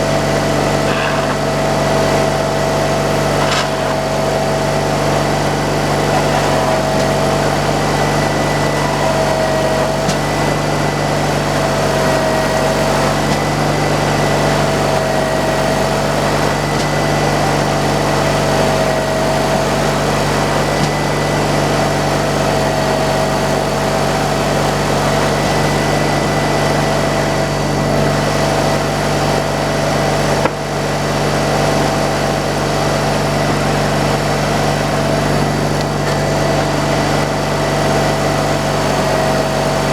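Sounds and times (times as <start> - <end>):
sawmill running with wavering whine: 0.0 - 39.9.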